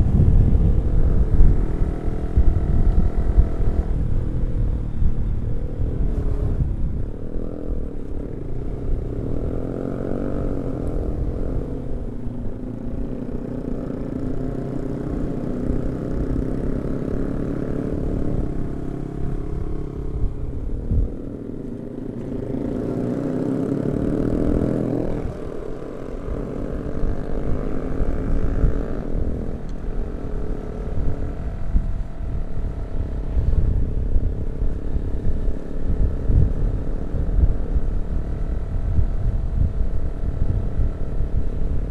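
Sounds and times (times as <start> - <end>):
motorcycle engine accelerating: 0.0 - 41.9
wind rumbling on microphone: 0.0 - 41.9.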